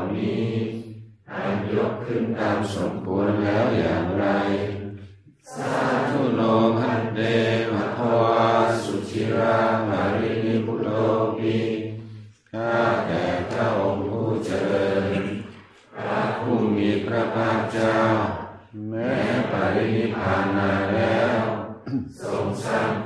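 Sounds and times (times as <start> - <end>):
group chanting in unison: 0.0 - 23.0.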